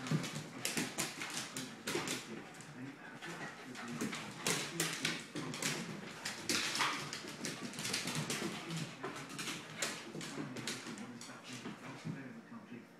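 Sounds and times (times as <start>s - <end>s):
dog noises: 0.0s - 12.1s.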